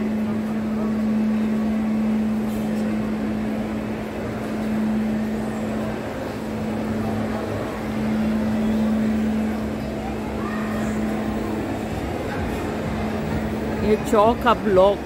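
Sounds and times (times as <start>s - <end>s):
busy concourse rumble: 0.0s - 15.0s
steady low hum: 0.0s - 15.0s.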